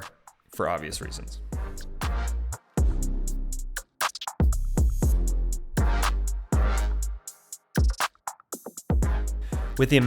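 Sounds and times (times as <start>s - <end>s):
electronic music with drum-machine beat: 1.0s - 10.0s.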